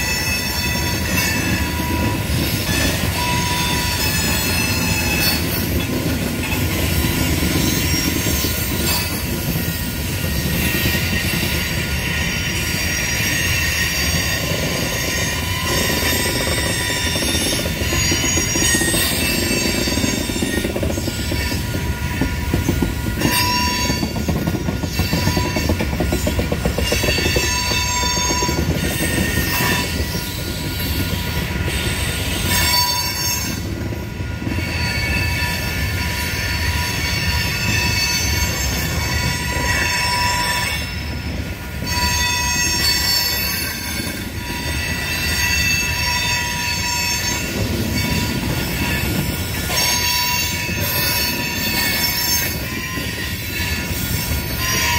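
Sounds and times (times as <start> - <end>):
wheel squeal: 0.0 - 33.7, 34.4 - 54.9
freight train wheels rumbling: 0.0 - 54.9.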